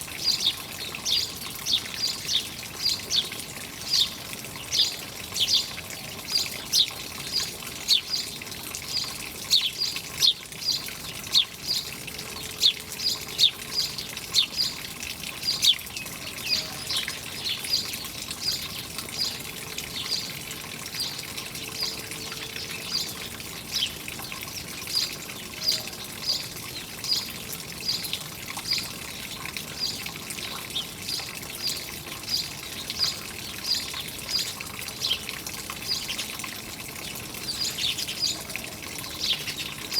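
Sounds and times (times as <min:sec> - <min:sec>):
running water hiss: 0:00.0 - 0:39.9
small birds chirping: 0:00.1 - 0:14.8, 0:15.4 - 0:39.9.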